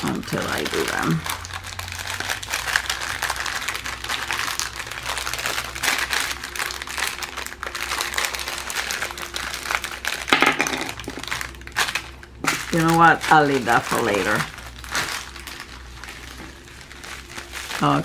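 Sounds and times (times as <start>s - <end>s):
low steady hum: 0.0s - 18.0s
plastic packaging crinkling: 0.0s - 18.0s.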